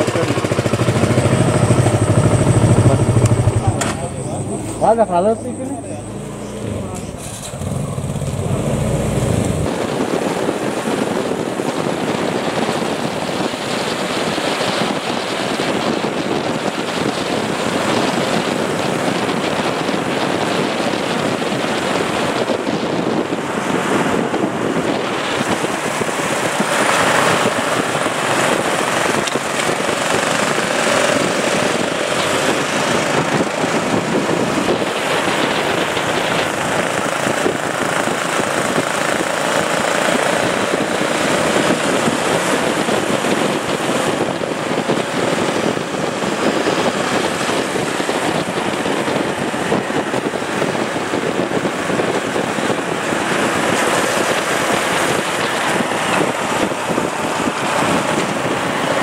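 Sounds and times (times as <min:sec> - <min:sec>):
motorcycle engines running: 0:00.0 - 0:59.0
wind rushing on microphone: 0:00.0 - 0:59.0.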